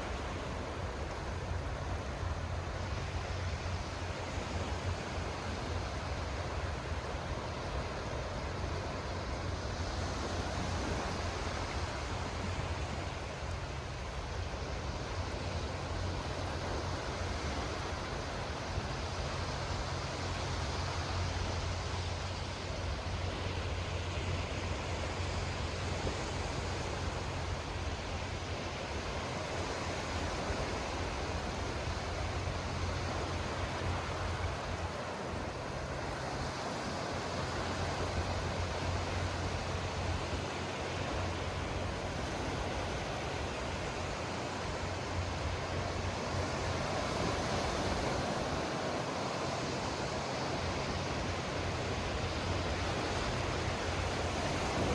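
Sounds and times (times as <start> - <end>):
constant low rumble: 0.0 - 54.9
sea waves washing: 0.0 - 54.9.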